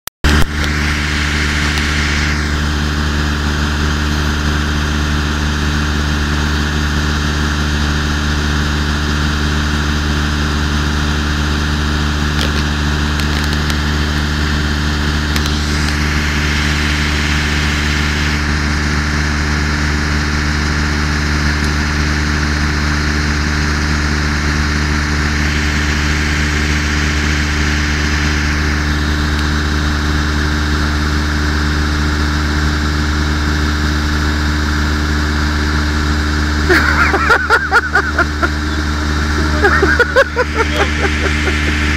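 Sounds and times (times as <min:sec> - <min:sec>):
large engine idling: 0:00.3 - 0:41.9.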